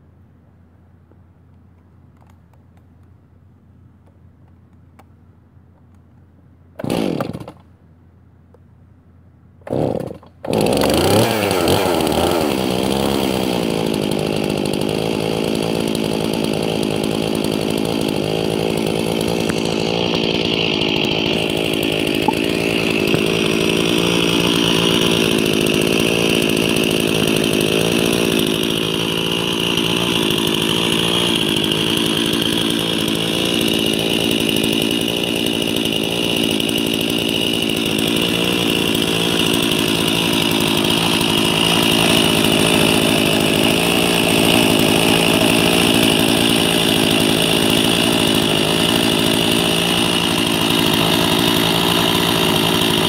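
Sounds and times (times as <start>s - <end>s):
chainsaw engine starting and idling: 5.8s - 7.8s, 9.6s - 53.0s.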